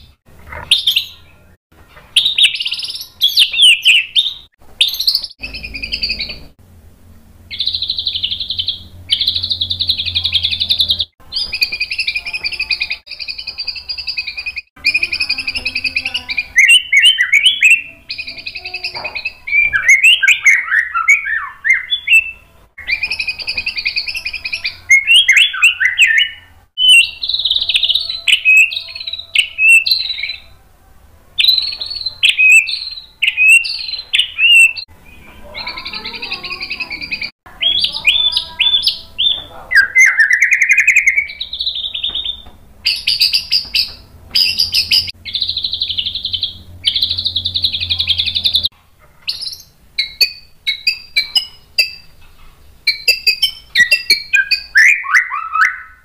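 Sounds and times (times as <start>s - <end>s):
songbird singing whistled phrases: 0.0s - 1.4s, 2.1s - 6.5s, 7.5s - 30.6s, 31.4s - 48.7s, 49.3s - 52.2s, 52.9s - 56.0s.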